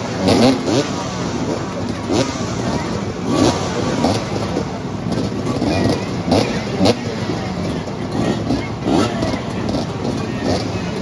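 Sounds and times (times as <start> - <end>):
motorcycle engines idling and revving: 0.0 - 11.0.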